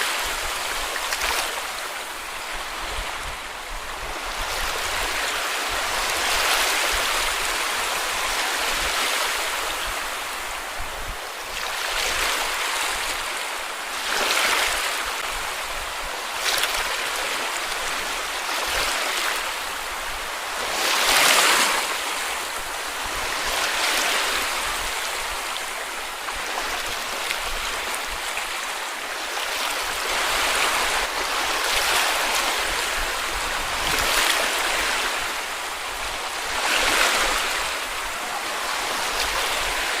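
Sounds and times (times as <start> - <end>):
sea waves breaking on beach: 0.0 - 40.0.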